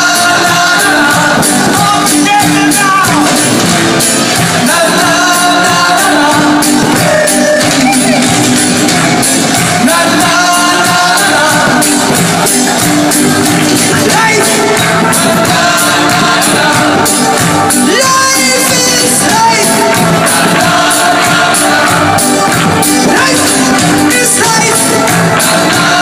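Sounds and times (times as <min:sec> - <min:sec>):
loud music with singing: 0:00.0 - 0:26.0.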